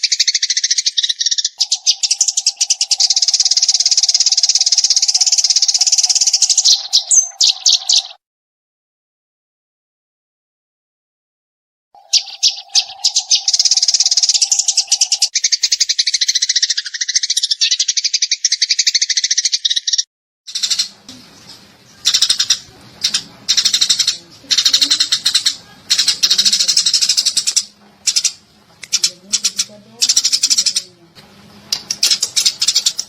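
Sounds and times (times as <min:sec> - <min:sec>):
sparrows chirping rapidly: 0:00.0 - 0:08.2, 0:12.0 - 0:33.0.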